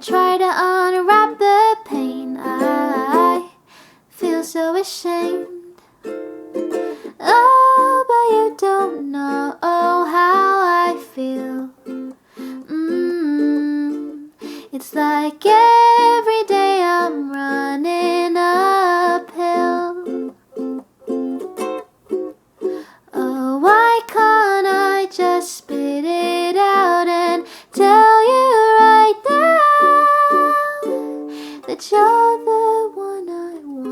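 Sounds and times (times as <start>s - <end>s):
plucked ukulele: 0.0s - 3.5s, 4.2s - 33.9s
person singing: 0.0s - 5.9s, 6.6s - 20.8s, 22.6s - 33.9s.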